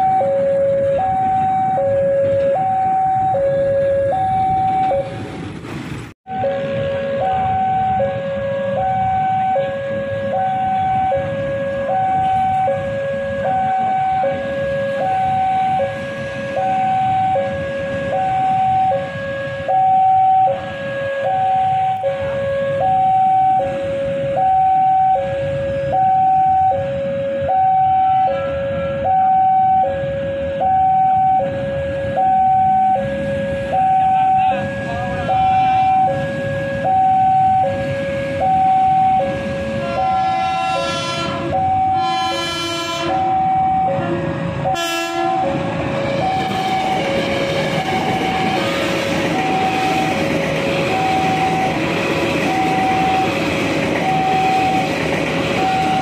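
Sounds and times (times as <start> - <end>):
level crossing two-tone alarm: 0.0 - 5.1, 6.3 - 45.6, 46.2 - 56.0
low rumble of road traffic: 0.0 - 56.0.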